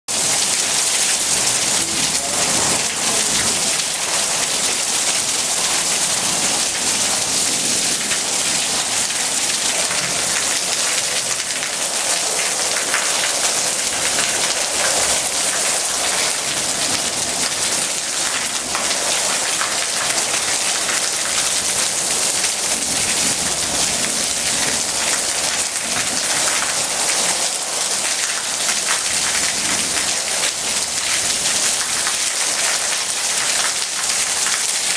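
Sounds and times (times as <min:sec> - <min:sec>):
heavy rain pouring: 0:00.1 - 0:34.9
water streaming off roof edge: 0:00.1 - 0:34.9.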